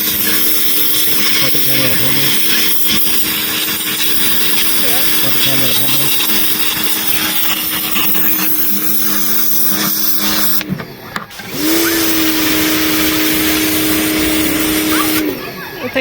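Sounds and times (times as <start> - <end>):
power tool motor running: 0.0 - 16.0.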